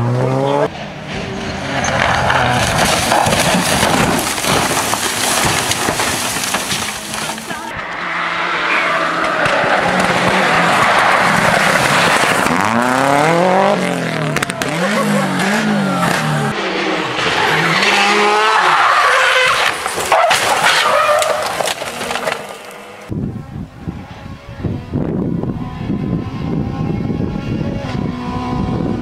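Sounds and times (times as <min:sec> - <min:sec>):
rally car engines revving: 0:00.0 - 0:29.0
tyre and road noise: 0:00.0 - 0:29.0.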